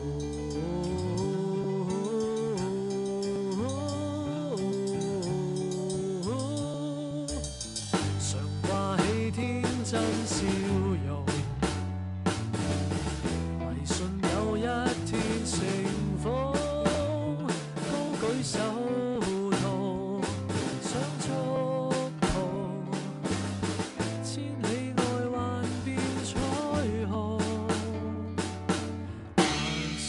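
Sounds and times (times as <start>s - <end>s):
drum kit playing: 0.0s - 30.0s
pop backing track: 0.0s - 30.0s.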